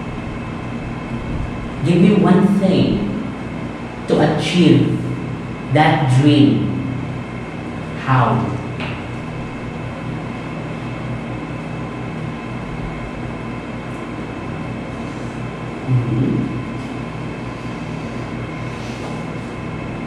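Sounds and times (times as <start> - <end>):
high whine: 0.0 - 20.0
low mechanical drone: 0.0 - 20.0.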